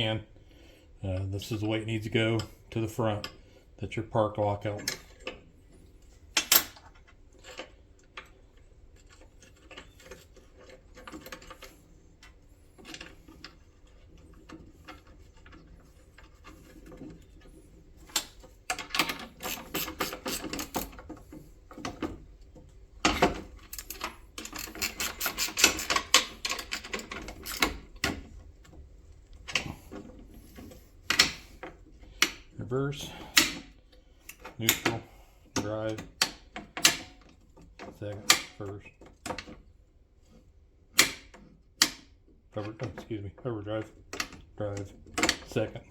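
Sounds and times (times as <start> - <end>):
metal clicks and clunks: 4.6 - 39.7, 40.3 - 45.8.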